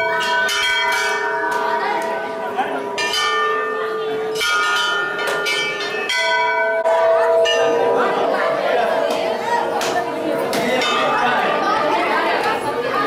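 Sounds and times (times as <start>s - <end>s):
brass bells ringing: 0.0s - 12.2s.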